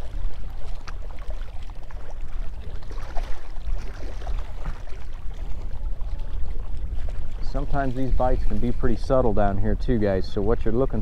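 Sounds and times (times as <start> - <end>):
water lapping against boat: 0.0 - 11.0
wind buffeting microphone: 0.0 - 11.0.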